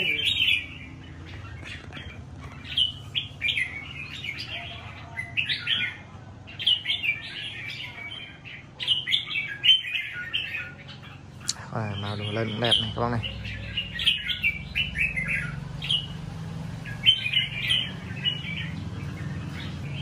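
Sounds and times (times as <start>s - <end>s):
birds singing in bright phrases: 0.0s - 20.0s.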